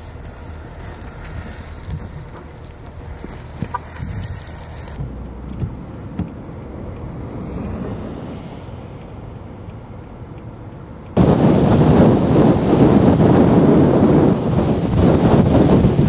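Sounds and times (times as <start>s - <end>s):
car passing on snowy road: 0.0s - 16.0s
wind buffeting microphone: 0.0s - 16.0s.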